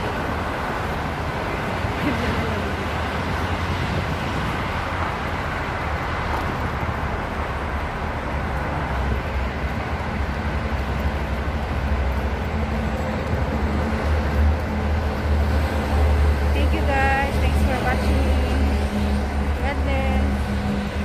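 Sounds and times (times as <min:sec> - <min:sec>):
outdoor traffic noise: 0:00.0 - 0:21.0
wind buffeting microphone: 0:00.0 - 0:21.0.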